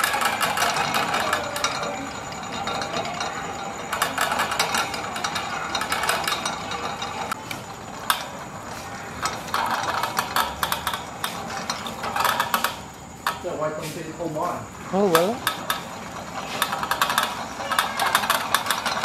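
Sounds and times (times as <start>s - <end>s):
roller chain rattling over sprockets: 0.0s - 19.0s.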